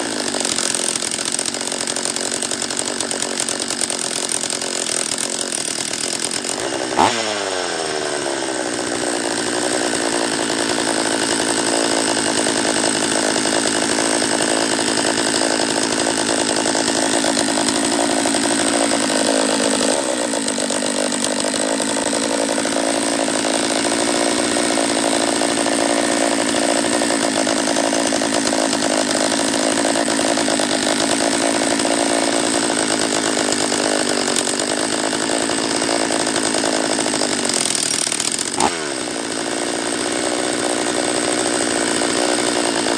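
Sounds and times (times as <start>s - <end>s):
chainsaw engine running: 0.0s - 42.9s.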